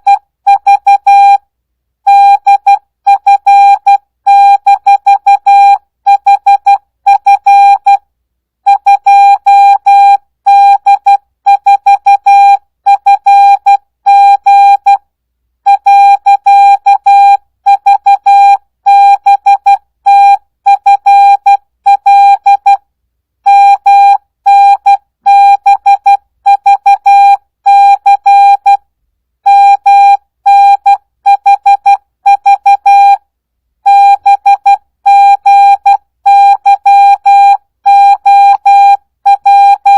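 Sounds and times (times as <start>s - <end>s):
morse code tone: 2.1s - 8.0s, 8.7s - 15.0s, 15.7s - 22.8s, 23.5s - 28.8s, 29.5s - 33.2s, 33.8s - 39.9s.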